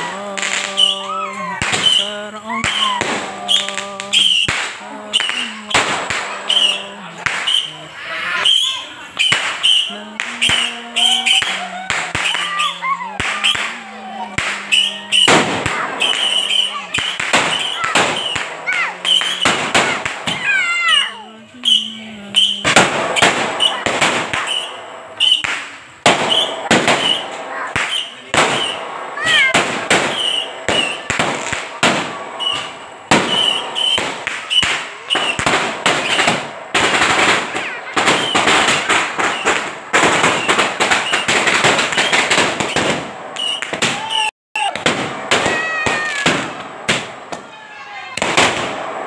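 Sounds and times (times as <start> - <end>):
firework whistles: 0.0 - 48.8
fireworks bangs and crackles: 0.0 - 49.0.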